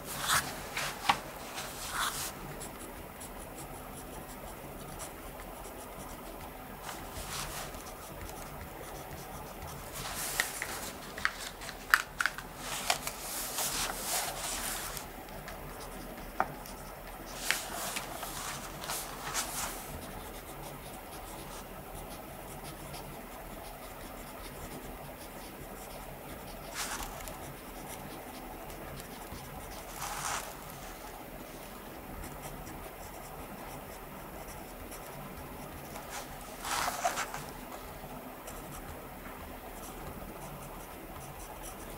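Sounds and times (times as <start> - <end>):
pen scratching on paper: 0.1 - 41.9.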